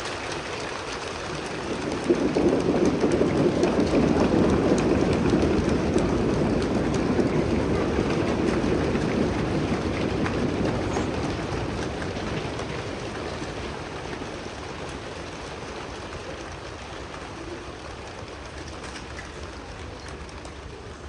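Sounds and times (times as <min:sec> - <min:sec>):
people making rain sounds: 0:00.0 - 0:21.0.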